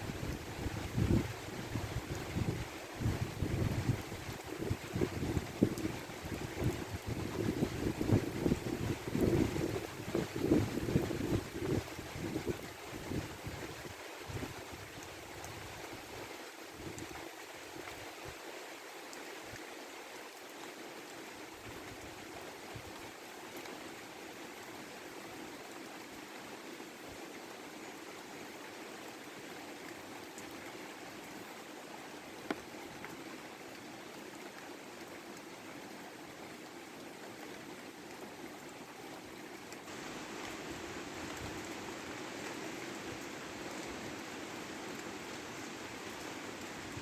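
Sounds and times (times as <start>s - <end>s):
rain falling and trickling: 0.0s - 47.0s.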